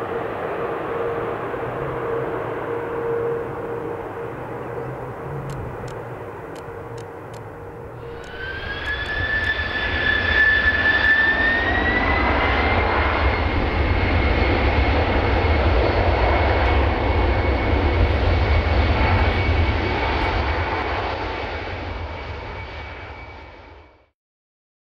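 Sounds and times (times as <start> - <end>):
jet engines rumbling: 0.0 - 23.7
jet engine whine spooling up: 0.0 - 24.1.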